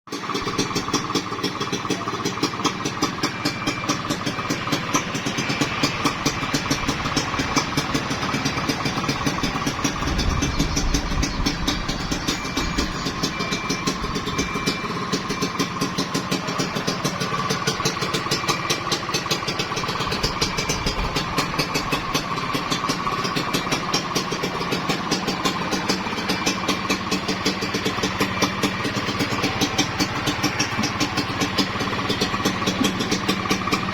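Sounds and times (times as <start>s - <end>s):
two-stroke engine idling: 0.1s - 33.9s.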